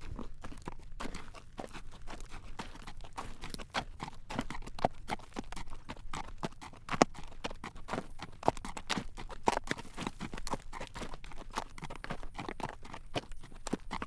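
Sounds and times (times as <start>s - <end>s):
horse hooves clip-clopping on pavement: 0.0s - 14.0s.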